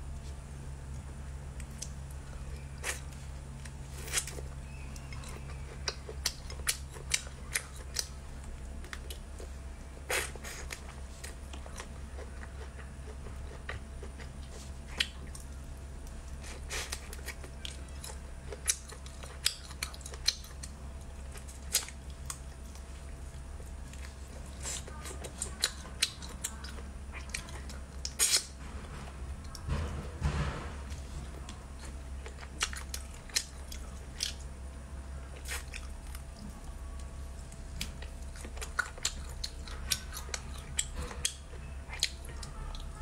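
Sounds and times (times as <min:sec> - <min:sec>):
steady low hum: 0:00.0 - 0:43.0
person chewing food: 0:00.2 - 0:28.6, 0:30.9 - 0:34.5, 0:35.2 - 0:43.0.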